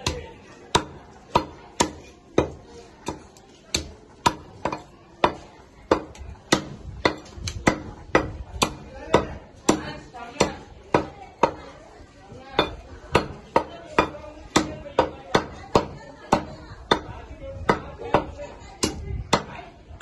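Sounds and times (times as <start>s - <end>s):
cleaver chopping through bone: 0.0s - 11.6s, 12.6s - 19.6s.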